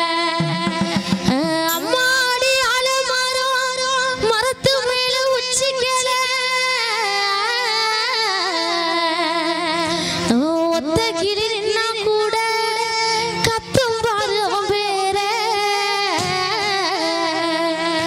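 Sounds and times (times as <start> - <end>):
woman singing folk song: 0.0 - 18.0.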